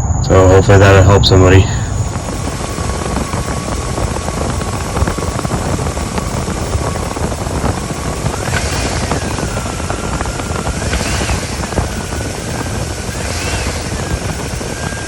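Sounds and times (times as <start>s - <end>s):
faint whine: 0.0s - 15.0s
vehicle engine rumble: 0.0s - 15.0s.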